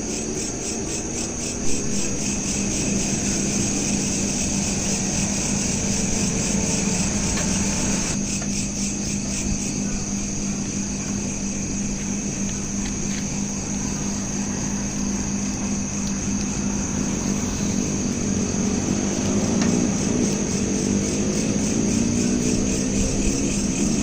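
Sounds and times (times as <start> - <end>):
vehicle engine: 0.0 - 8.2, 11.0 - 24.0
crickets chirping: 0.0 - 24.0
steady low hum: 0.0 - 24.0.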